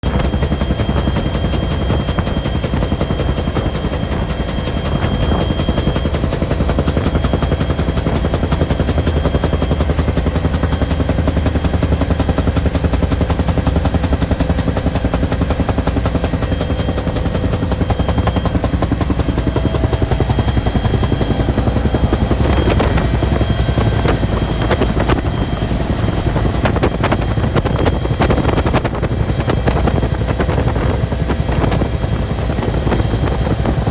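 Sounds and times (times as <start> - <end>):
helicopter rotor and turbine: 0.0 - 33.9.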